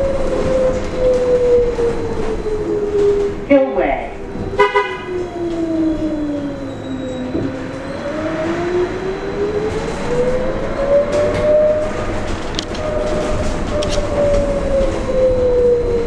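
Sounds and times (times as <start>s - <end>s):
road and body rumble: 0.0s - 16.0s
trolleybus electric drive whine: 0.0s - 16.0s.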